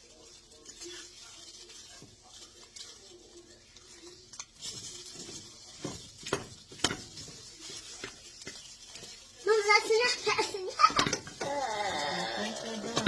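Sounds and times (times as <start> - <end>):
eggs sizzling in a frying pan: 0.0 - 13.0.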